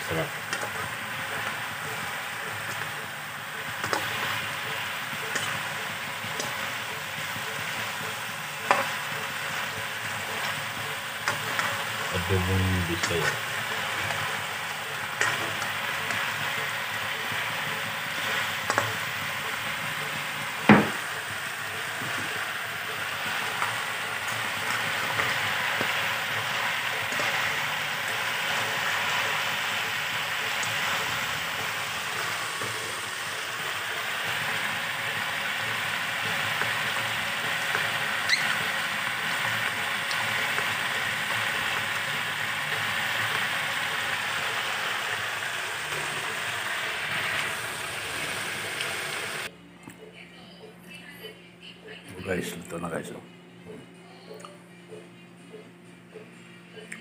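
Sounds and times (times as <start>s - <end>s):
food sizzling in a pan: 0.0s - 49.5s.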